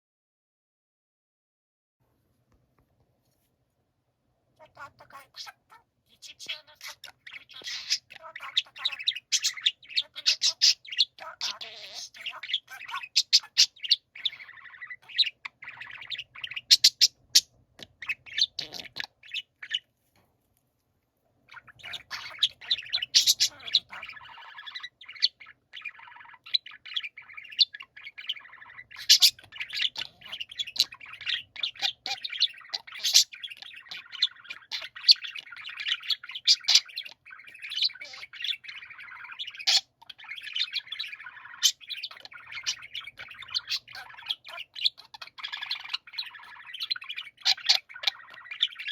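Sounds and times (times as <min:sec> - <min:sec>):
budgerigars warbling and chattering: 0:04.6 - 0:19.9, 0:21.5 - 0:48.9.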